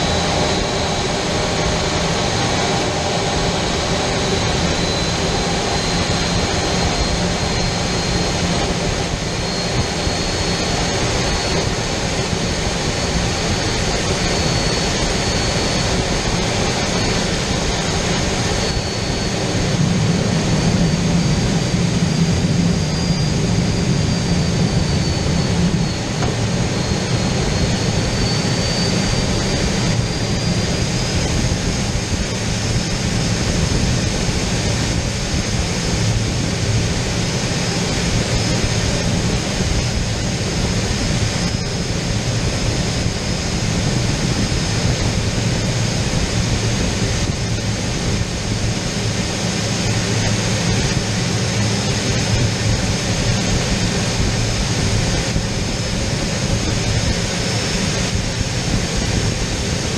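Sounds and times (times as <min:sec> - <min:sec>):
engine and air rush: 0:00.0 - 0:59.9
jet engine whine: 0:00.0 - 0:59.9.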